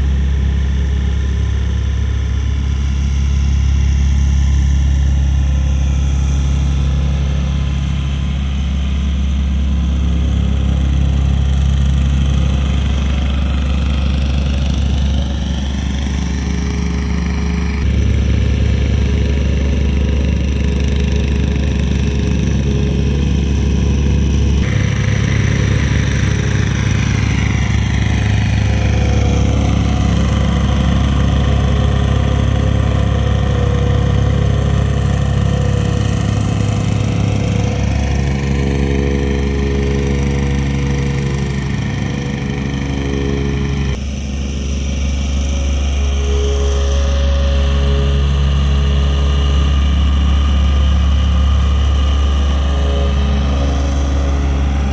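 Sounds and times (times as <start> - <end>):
diesel machinery engines running: 0.0 - 54.9.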